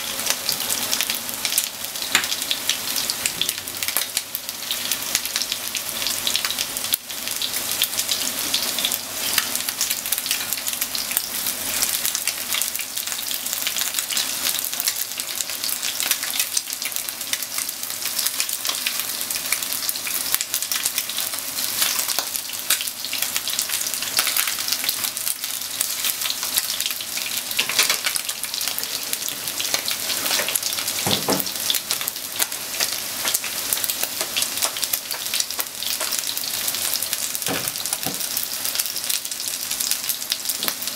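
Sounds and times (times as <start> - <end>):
chicken sizzling in oil: 0.0 - 40.9.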